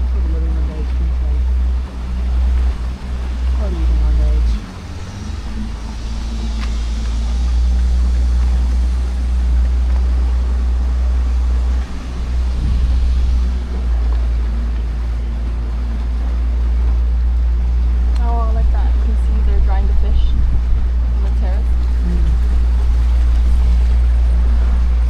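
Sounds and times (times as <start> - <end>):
boat motor droning: 0.0 - 25.0.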